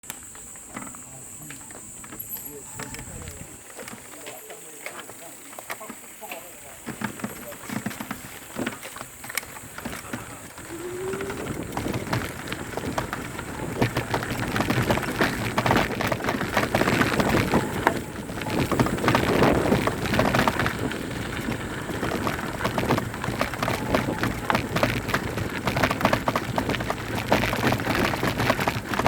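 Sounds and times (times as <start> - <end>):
bike rattling clicks: 0.0 - 29.0
tyres crunching on dirt and stones: 0.0 - 29.0.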